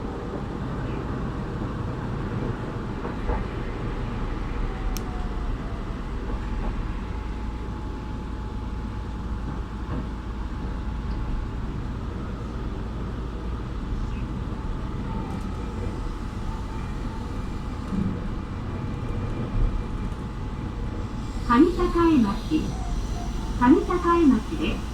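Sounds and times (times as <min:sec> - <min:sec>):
train wheels rumbling: 0:00.0 - 0:24.9.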